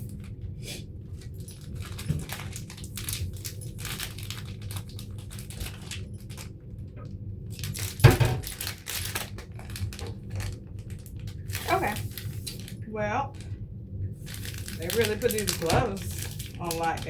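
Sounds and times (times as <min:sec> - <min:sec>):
plastic packaging crinkling: 0:00.0 - 0:13.6, 0:14.2 - 0:17.0
low hum: 0:00.0 - 0:17.0.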